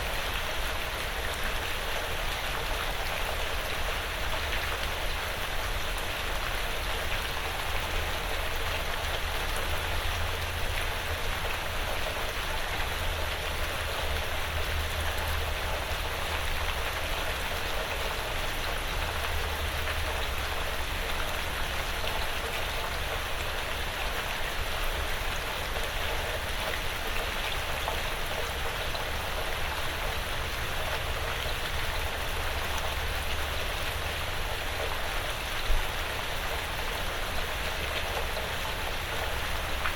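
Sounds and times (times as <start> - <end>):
light rain on a roof: 0.0 - 39.9.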